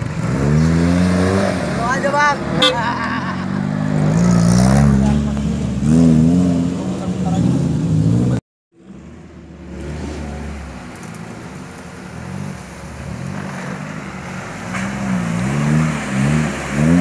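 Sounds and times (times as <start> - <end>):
vehicle splashing through water: 0.0 - 8.3, 9.7 - 17.0
off-road vehicle engine revving: 0.0 - 11.3, 12.2 - 17.0.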